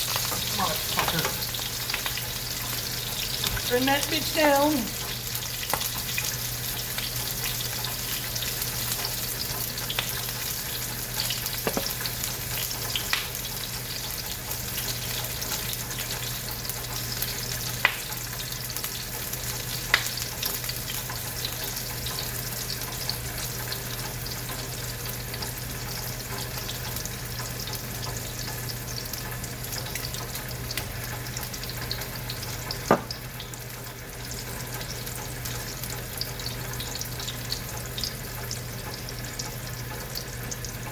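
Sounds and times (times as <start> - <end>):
sausage sizzling in a pan: 0.0 - 40.9.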